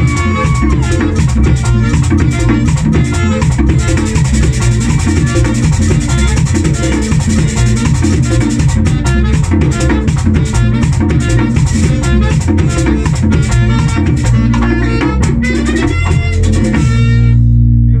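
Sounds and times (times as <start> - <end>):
shaker rhythm: 0.0 - 17.2
accordion: 0.0 - 17.4
drums: 0.0 - 17.4
saxophone: 0.0 - 18.0.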